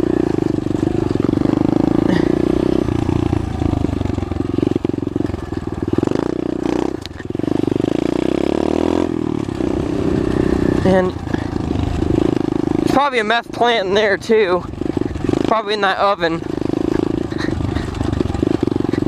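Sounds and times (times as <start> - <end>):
pit bike engine running: 0.0 - 19.0.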